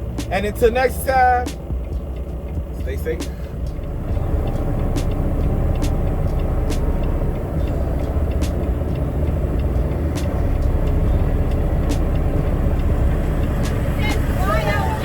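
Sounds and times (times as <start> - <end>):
diesel truck engine rumbling: 0.0 - 15.0
sharp ticks: 0.0 - 15.0.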